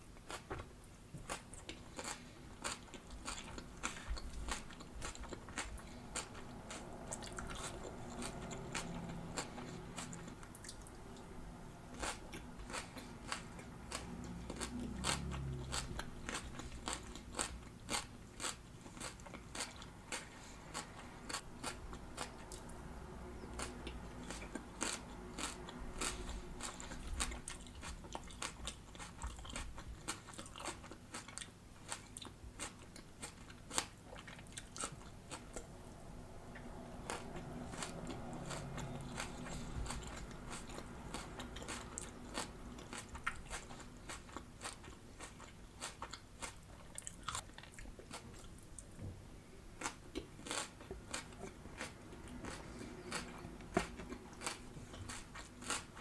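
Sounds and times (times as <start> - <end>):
chewing crunchy salad: 0.0 - 49.0, 49.7 - 56.0.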